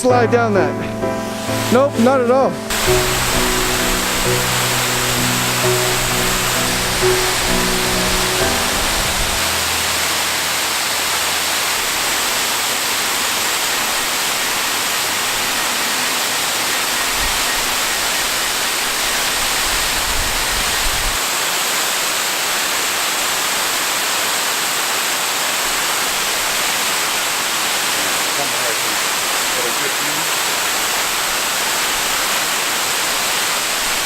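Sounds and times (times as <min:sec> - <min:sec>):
waterfall rushing: 0:01.0 - 0:34.0.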